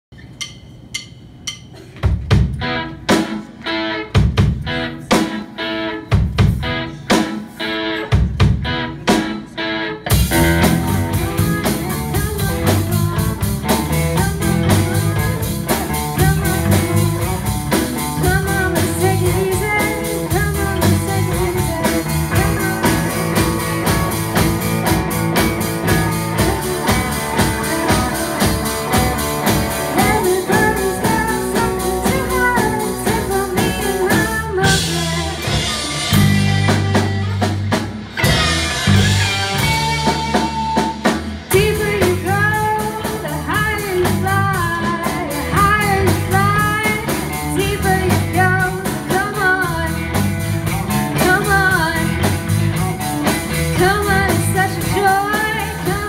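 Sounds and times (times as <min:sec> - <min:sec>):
live rock band playing: 0:01.4 - 0:56.0.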